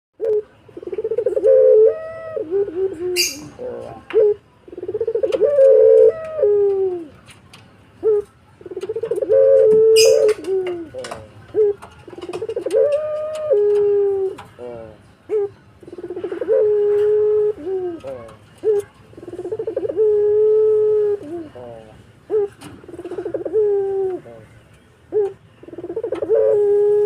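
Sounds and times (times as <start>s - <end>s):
dove cooing: 0.2s - 7.3s, 7.9s - 27.0s.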